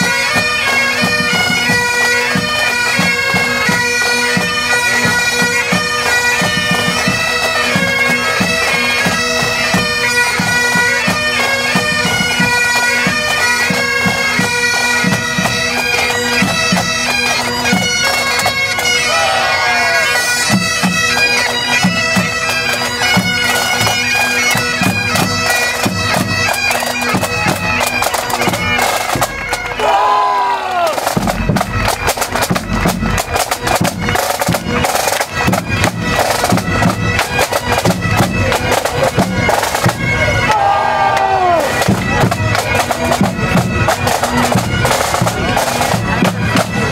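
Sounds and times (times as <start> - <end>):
bagpipes playing a tune: 0.0 - 29.9, 30.9 - 46.9
pipe band drums beating: 0.0 - 46.9.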